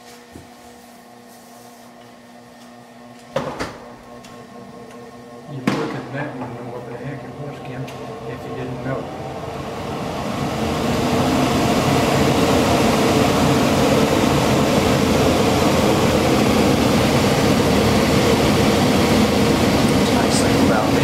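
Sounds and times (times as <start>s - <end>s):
large fan running: 0.0s - 21.0s.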